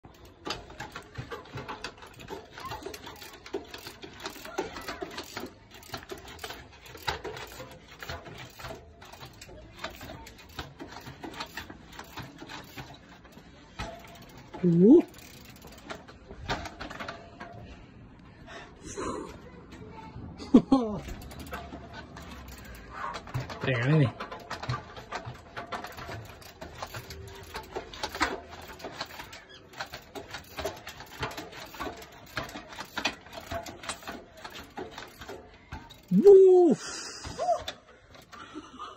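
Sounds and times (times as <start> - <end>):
bicycle freewheel ticking: 0.0 - 17.8, 21.0 - 38.9
bike wheel knocking on stone steps: 0.0 - 17.8, 20.7 - 36.6.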